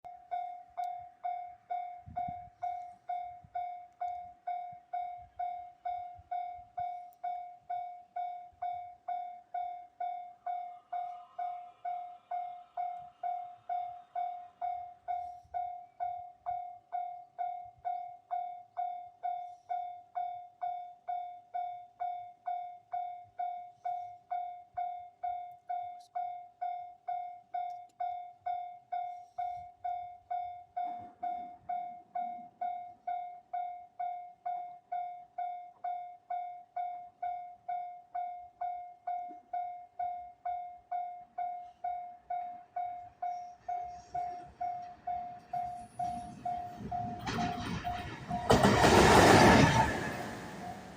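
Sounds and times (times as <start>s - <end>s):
level crossing warning bell ringing: 0.1s - 49.0s.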